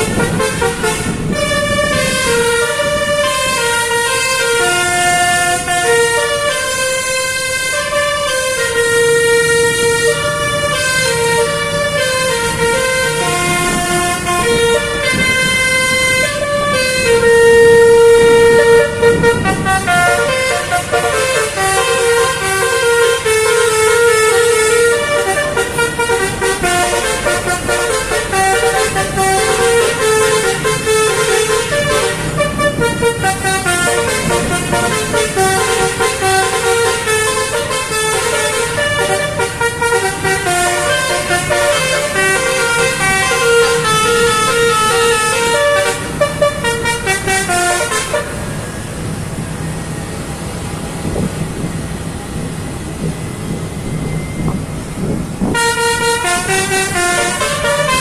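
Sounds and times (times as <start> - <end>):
multi-tone air horn melody: 0.0 - 48.6, 55.4 - 58.0.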